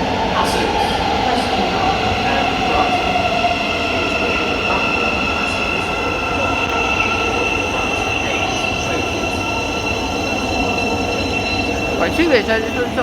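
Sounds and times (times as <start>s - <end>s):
electric train motor whine: 0.0s - 13.0s
high-pitched squeal: 0.3s - 13.0s.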